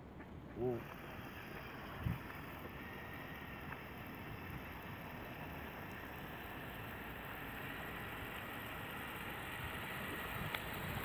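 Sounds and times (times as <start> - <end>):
toy motor whining: 0.6 - 11.0
wheels churning water: 0.6 - 11.0.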